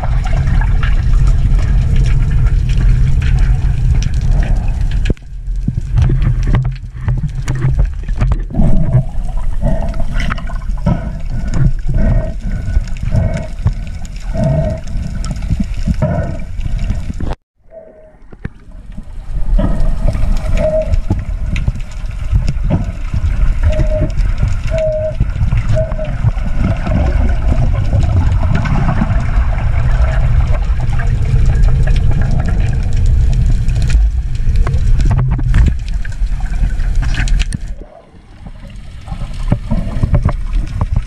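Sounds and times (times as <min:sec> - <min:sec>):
underwater water rumble and bubbling: 0:00.0 - 0:41.0.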